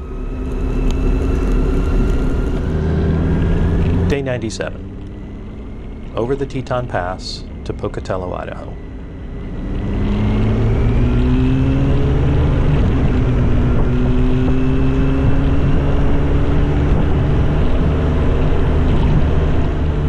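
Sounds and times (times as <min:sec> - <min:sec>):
motorcycle engine shifting gears: 0:00.0 - 0:20.0
road and wind noise: 0:00.0 - 0:20.0.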